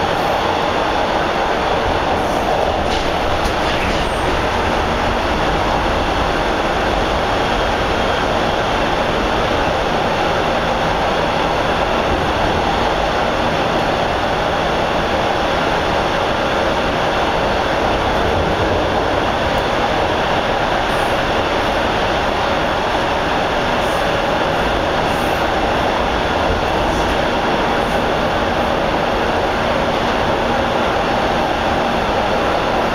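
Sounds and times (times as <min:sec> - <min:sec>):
subway car wheels on rail: 0:00.0 - 0:32.9.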